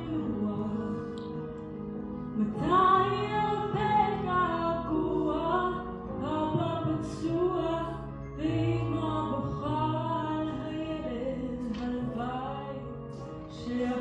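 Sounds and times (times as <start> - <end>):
woman singing into microphone: 0.0 - 1.6, 2.4 - 14.0.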